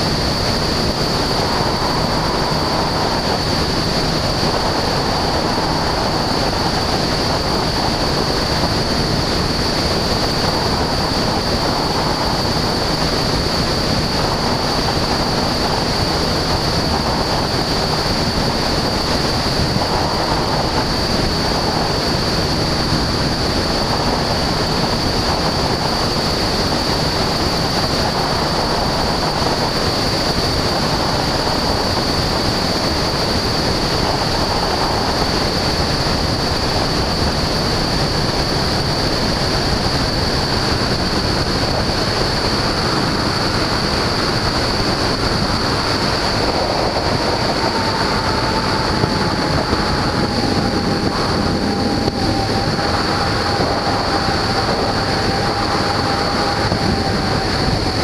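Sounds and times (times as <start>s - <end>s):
light aircraft engine and propeller: 0.0s - 58.0s
steady high whine: 0.0s - 58.0s
wind rushing on microphone: 0.0s - 58.0s.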